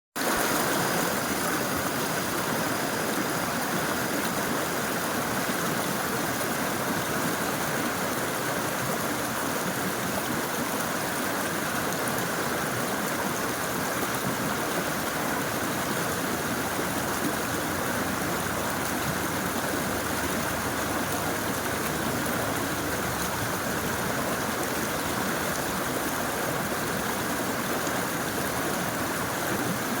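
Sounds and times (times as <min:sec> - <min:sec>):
river water flowing: 0:00.2 - 0:30.0.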